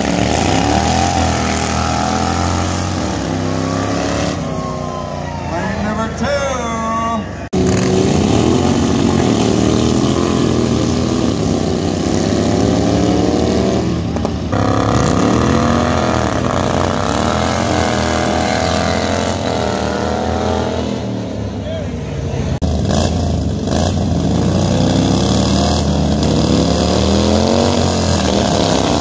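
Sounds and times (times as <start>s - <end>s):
lawn tractor engines revving: 0.0s - 29.0s.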